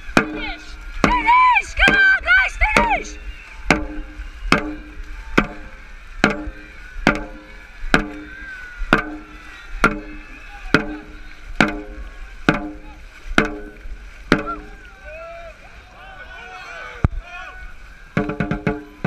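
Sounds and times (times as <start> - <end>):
drum beating steadily: 0.0 - 14.9, 18.1 - 19.0.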